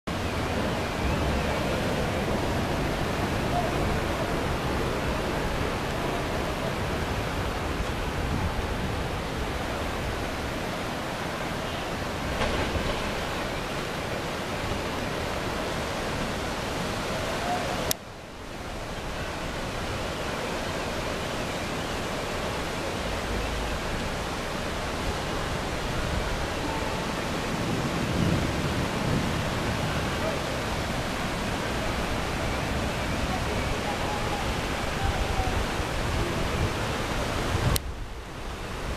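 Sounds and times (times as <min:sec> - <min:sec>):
floodwater rushing: 0:00.1 - 0:38.9.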